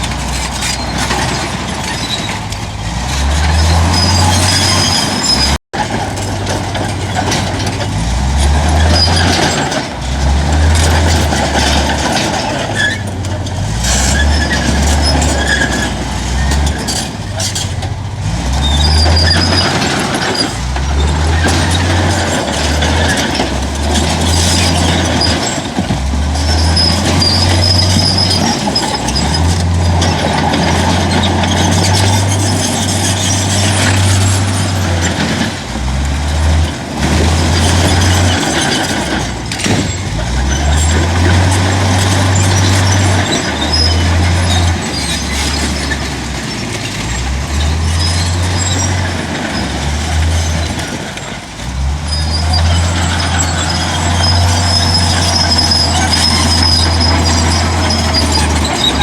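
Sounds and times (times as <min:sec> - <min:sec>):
earthmoving machinery engine: 0:00.0 - 0:59.0.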